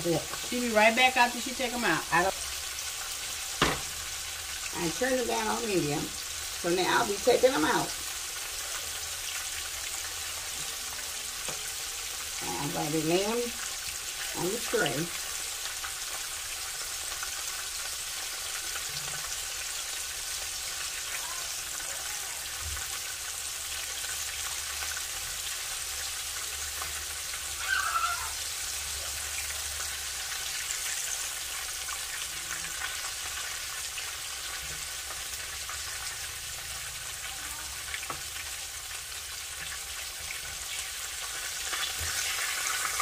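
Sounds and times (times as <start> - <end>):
meat frying in hot oil: 0.0 - 43.0.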